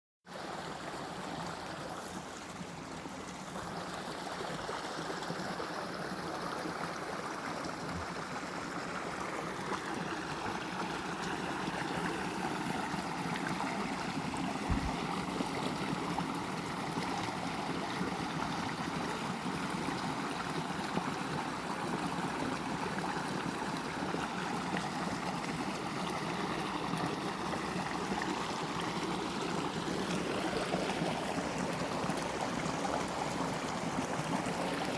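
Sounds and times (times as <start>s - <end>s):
running water: 0.3s - 34.9s.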